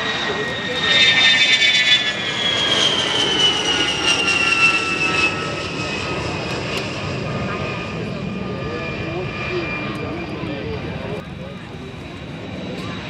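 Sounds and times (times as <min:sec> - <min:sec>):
jet turbofans whining in flyby: 0:00.0 - 0:13.0.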